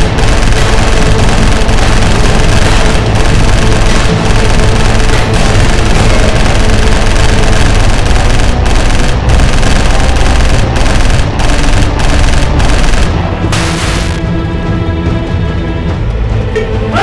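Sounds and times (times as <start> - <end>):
rapid automatic gunfire: 0.0 - 14.2
film music score: 0.0 - 17.0.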